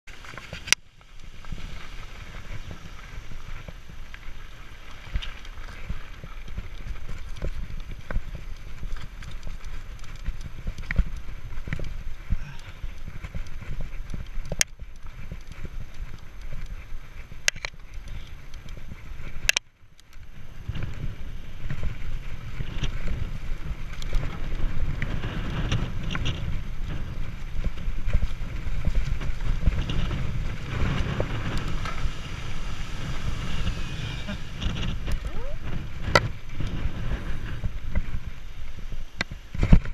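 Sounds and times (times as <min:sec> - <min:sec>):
bike tyres rumbling on gravel: 0:00.1 - 0:39.9
wind on microphone: 0:00.1 - 0:39.9
bike rattling clicks and knocks: 0:00.2 - 0:33.6.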